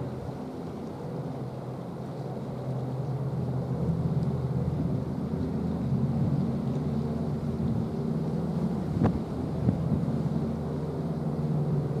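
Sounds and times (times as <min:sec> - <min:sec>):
distant ship engines droning: 0:00.0 - 0:12.0.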